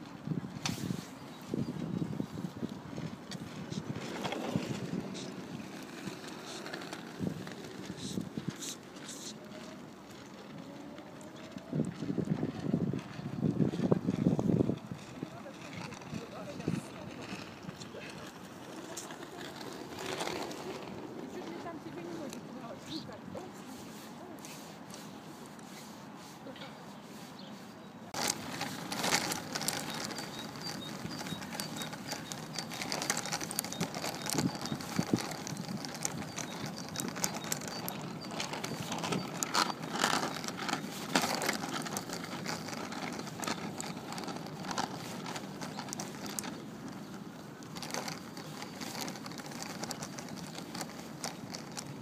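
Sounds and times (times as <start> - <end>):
plastic wheels rolling on asphalt: 0.0 - 52.0.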